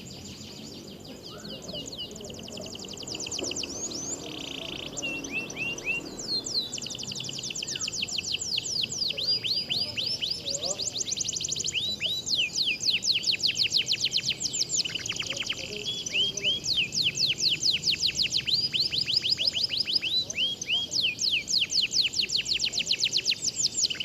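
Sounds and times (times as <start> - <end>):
canaries singing trills: 0.0 - 24.0.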